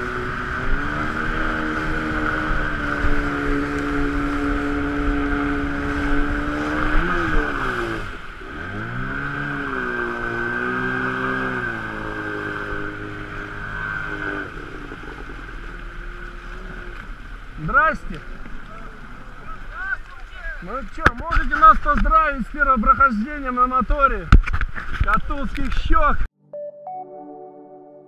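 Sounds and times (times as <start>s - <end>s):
boat motor running: 0.0s - 23.1s.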